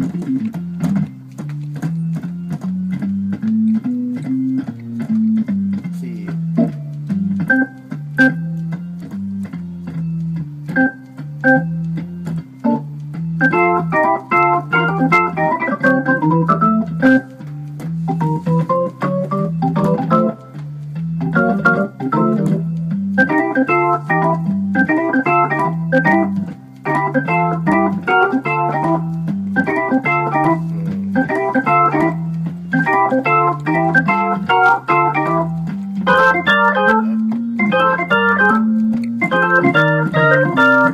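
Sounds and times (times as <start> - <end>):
organ playing chords and runs: 0.0 - 40.9.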